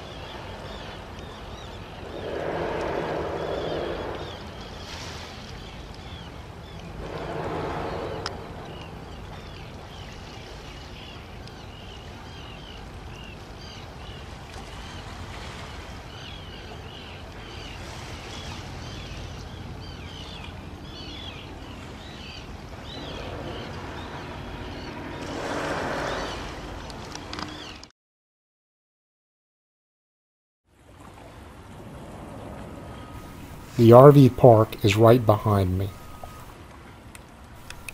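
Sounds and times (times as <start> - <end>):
water noise: 0.0 - 27.9, 30.7 - 37.9
wind: 0.0 - 27.9, 30.6 - 37.9.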